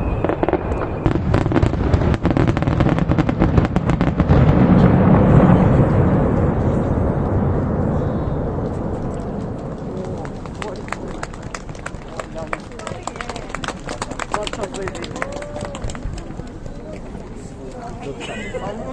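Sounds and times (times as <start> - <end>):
low rolling firework boom: 0.0 - 17.4
fireworks crackling pops: 0.0 - 18.0.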